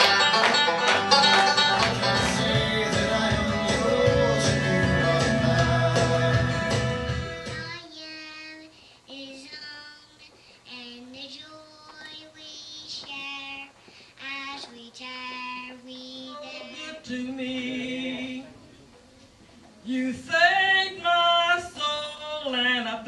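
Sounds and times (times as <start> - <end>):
person singing gospel song: 1.5 - 7.8, 8.4 - 18.7, 19.8 - 23.0.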